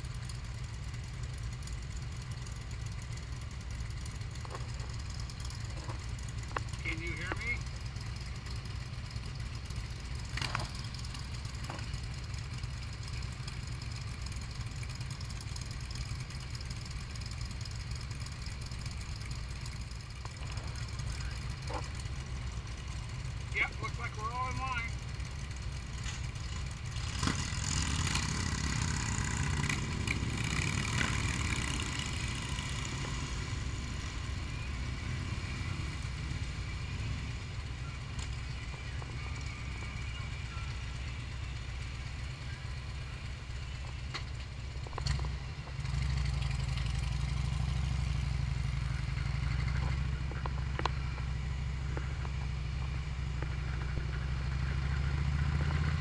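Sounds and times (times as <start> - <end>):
motorcycle engine low rumble: 0.0 - 56.0
motorcycles idling and pulling away: 0.0 - 56.0.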